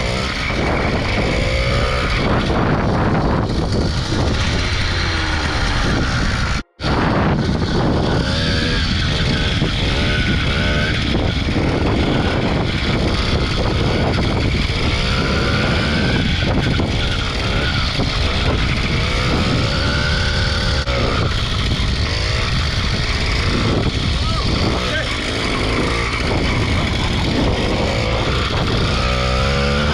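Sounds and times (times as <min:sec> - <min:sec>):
two-stroke engine revving: 0:00.0 - 0:29.9
wind noise on microphone: 0:00.0 - 0:29.9.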